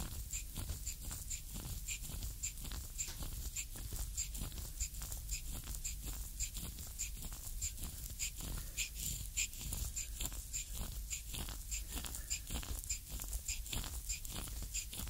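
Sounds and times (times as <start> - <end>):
low steady hum: 0.0 - 15.0
wooden stick grinding on skin: 0.0 - 15.0.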